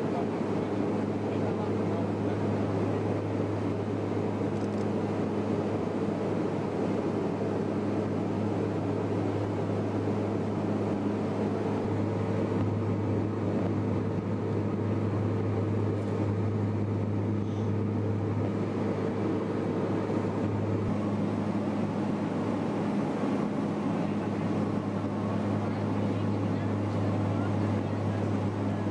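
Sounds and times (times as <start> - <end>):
engine drone with low hum: 0.0 - 28.9.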